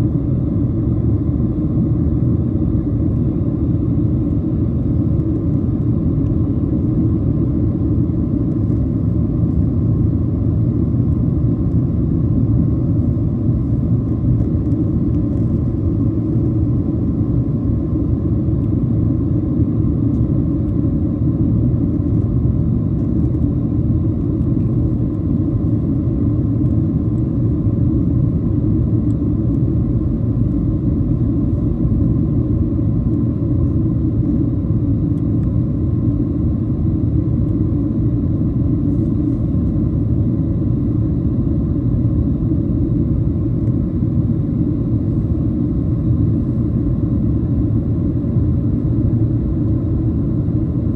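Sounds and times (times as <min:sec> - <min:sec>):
airplane cabin engine rumble: 0:00.0 - 0:50.9
faint steady hum: 0:00.0 - 0:50.9.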